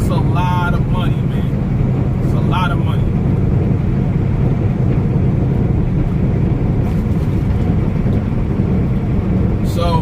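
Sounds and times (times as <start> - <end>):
semi truck engine rumbling: 0.0 - 10.0.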